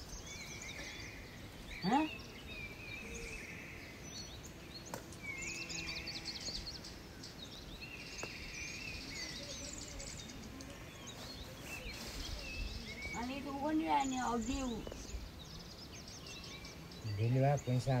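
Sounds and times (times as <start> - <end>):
songbirds singing and chirping: 0.0 - 18.0.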